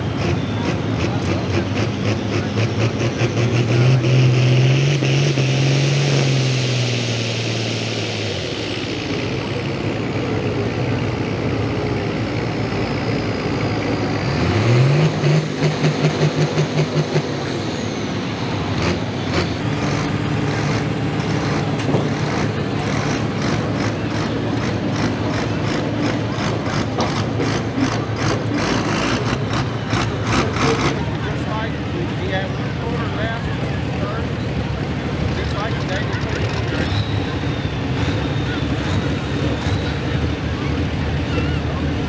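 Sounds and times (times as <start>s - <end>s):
tractor diesel engine revving: 0.0s - 42.0s.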